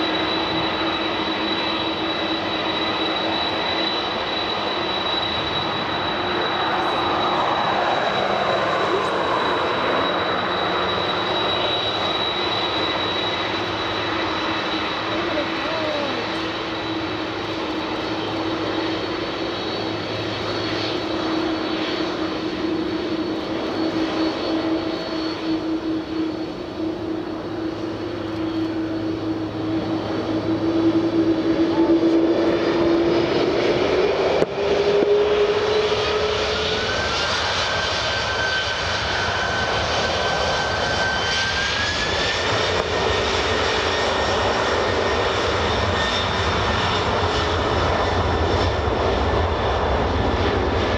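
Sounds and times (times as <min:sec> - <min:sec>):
jet engines whining: 0:00.0 - 0:50.9.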